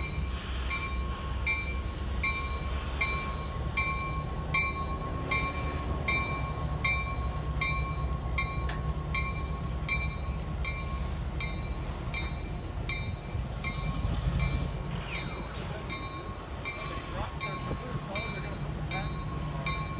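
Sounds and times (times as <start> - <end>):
diesel locomotive rumbling: 0.0 - 19.9
locomotive bell ringing: 0.0 - 19.9.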